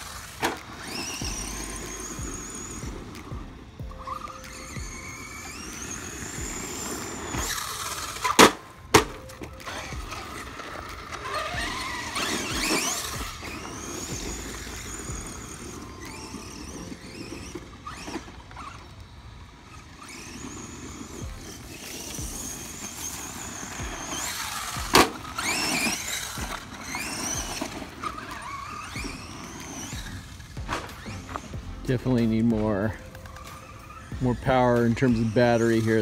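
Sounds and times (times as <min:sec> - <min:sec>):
electric motor whining: 0:00.0 - 0:36.0.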